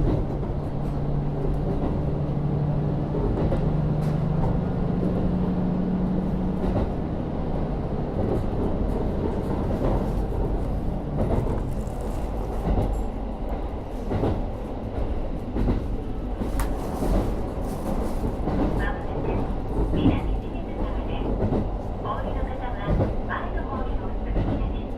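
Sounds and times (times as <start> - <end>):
diesel railcar engine: 0.0 - 24.9
train running rumble: 0.0 - 24.9.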